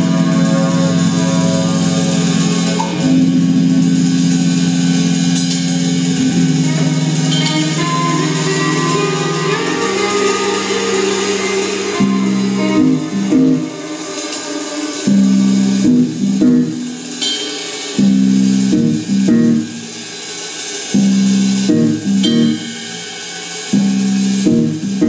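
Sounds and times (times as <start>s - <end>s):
electric guitars playing riff: 0.0s - 20.0s, 20.9s - 25.0s
drum kit with cymbals: 0.0s - 25.0s.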